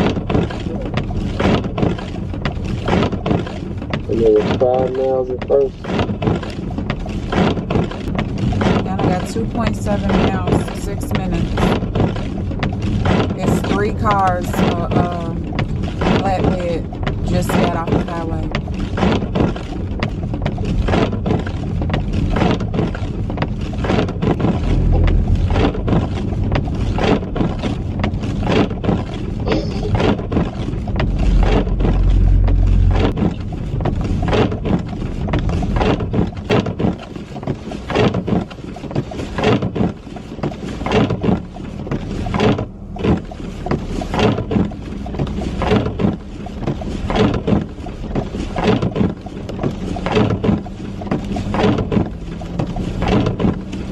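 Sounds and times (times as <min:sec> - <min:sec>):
car road rumble: 0:00.0 - 0:53.9
irregular knocks and clatter: 0:00.0 - 0:53.9.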